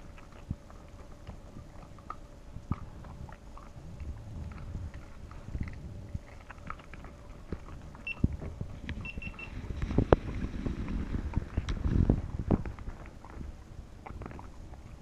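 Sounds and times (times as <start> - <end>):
dog crunching treats: 0.0 - 9.0, 9.9 - 15.0.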